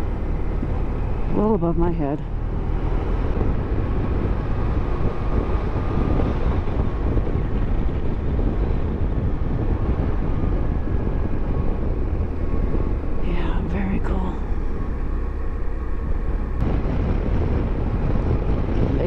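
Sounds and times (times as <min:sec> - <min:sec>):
rushing wind: 0:00.0 - 0:19.0.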